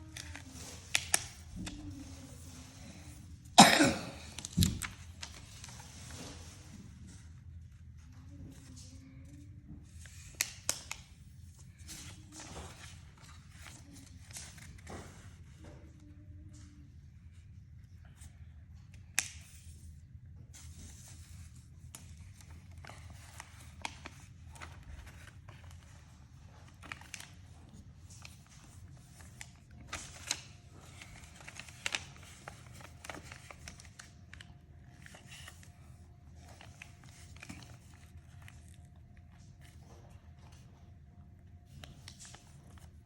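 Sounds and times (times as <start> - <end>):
paper rustling and crinkling: 0.0 - 3.6, 4.2 - 17.4, 18.0 - 43.0.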